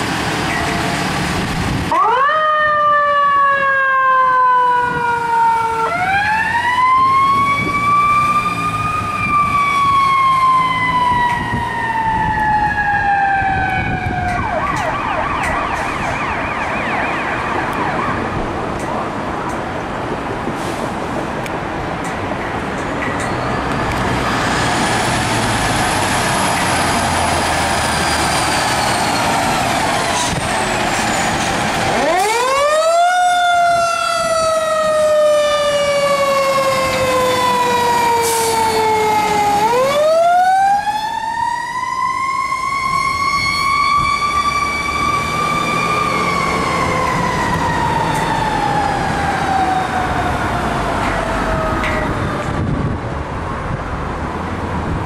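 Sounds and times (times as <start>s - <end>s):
fire engine siren: 0.0s - 19.5s, 23.2s - 53.4s
engine and road noise: 0.0s - 55.0s.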